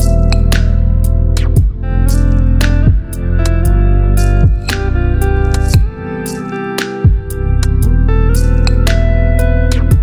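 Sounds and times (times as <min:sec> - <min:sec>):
guitar music with bass and beat: 0:00.0 - 0:10.0.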